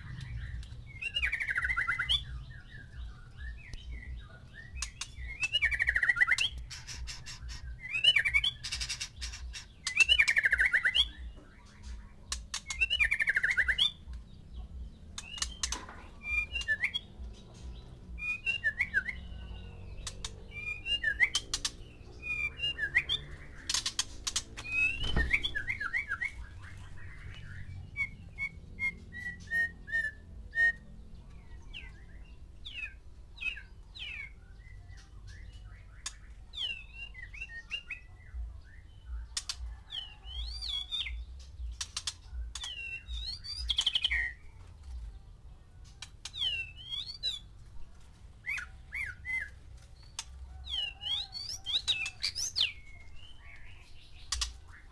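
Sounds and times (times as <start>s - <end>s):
songbirds singing and calling: 0.0s - 54.9s.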